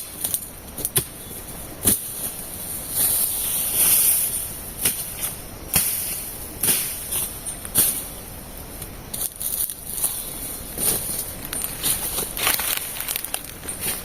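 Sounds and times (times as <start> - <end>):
rustling noise: 0.0 - 8.2, 8.8 - 14.0
steady high hiss: 0.0 - 14.0.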